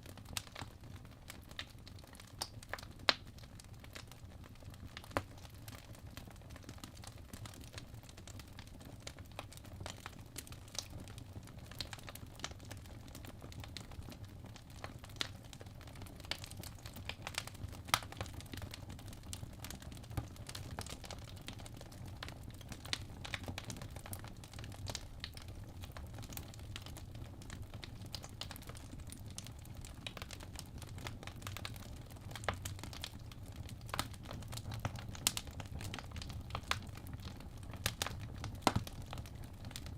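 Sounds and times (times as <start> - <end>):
fireplace crackling: 0.2 - 39.9.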